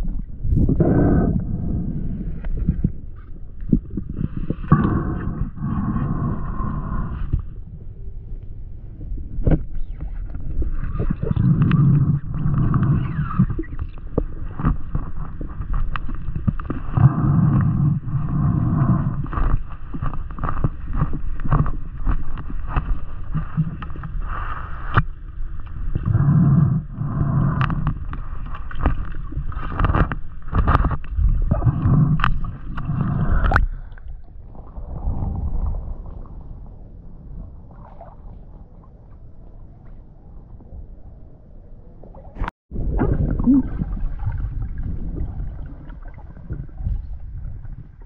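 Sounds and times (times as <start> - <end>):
muffled underwater water wash: 0.0 - 48.0.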